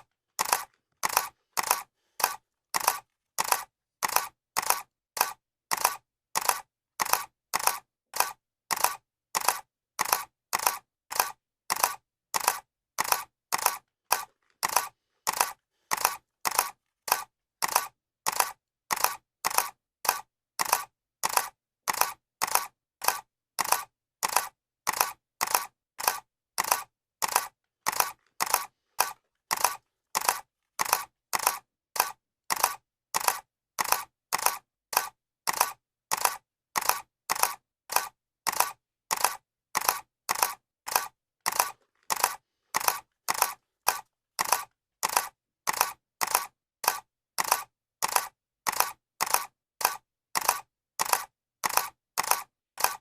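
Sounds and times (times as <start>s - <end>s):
camera shutter clicking: 0.4s - 53.0s.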